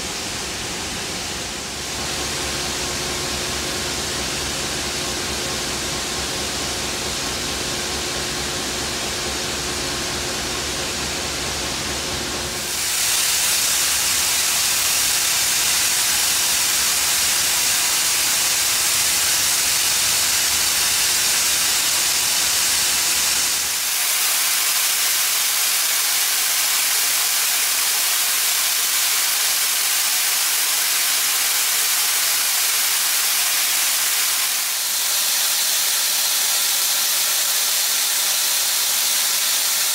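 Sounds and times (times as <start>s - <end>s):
steam venting hiss: 0.0s - 39.9s.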